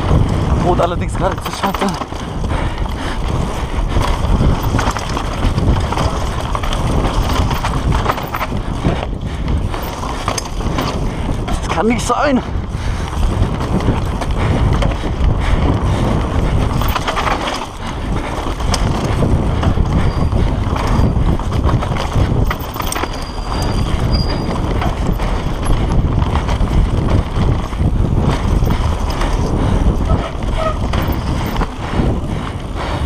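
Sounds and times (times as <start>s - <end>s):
bike tyre noise on dirt: 0.0s - 33.0s
chain and frame rattling: 0.0s - 33.0s
wind rushing: 0.0s - 33.0s.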